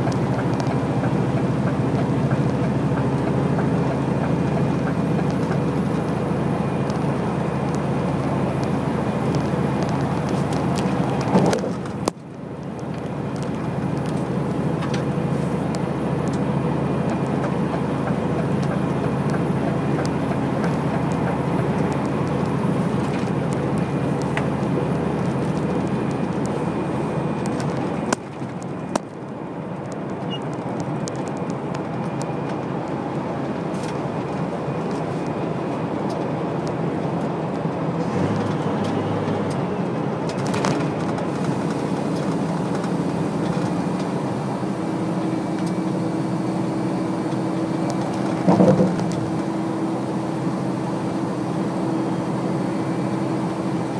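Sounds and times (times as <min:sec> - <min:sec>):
engine and tyre noise: 0:00.0 - 0:53.9.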